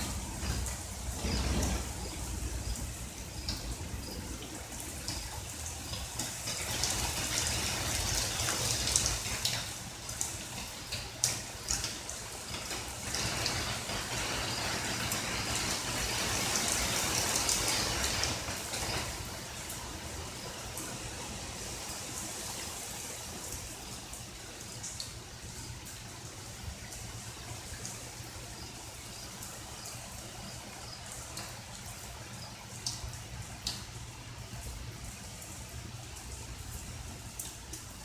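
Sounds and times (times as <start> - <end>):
heavy rain hissing: 0.0 - 38.0
water drips and splashes: 0.0 - 38.0.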